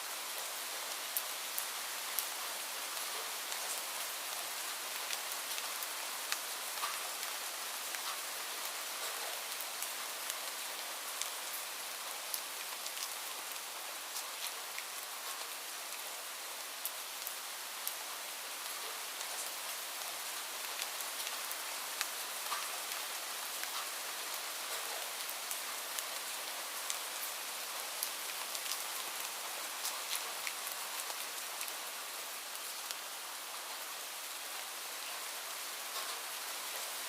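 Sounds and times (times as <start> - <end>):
steady rainfall: 0.0 - 37.0.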